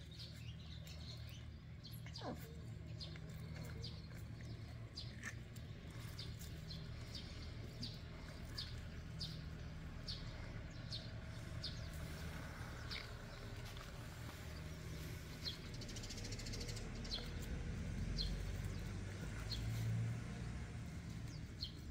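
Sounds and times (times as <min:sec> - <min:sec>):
bird chirping: 0:00.0 - 0:19.8.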